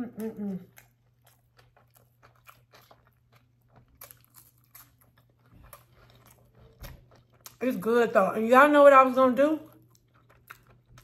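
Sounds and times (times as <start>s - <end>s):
wet chewing and mouth clicks: 0.1s - 7.7s, 9.6s - 11.0s.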